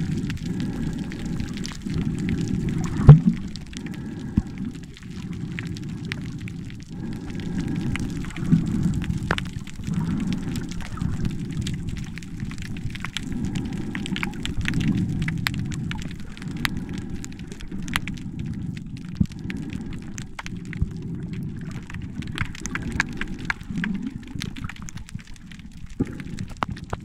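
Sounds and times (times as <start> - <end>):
muffled underwater wash: 0.0 - 27.0
sharp underwater clicks and crackles: 0.0 - 27.0.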